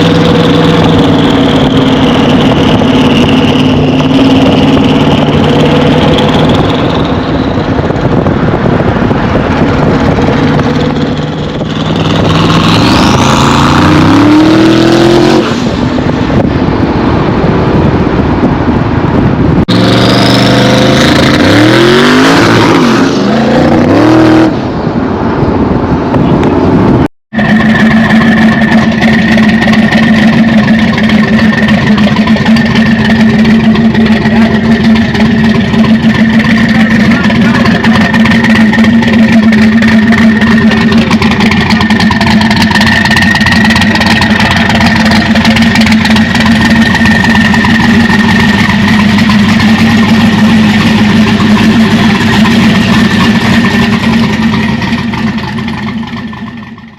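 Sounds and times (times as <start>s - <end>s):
car engine accelerating hard: 0.0s - 56.8s.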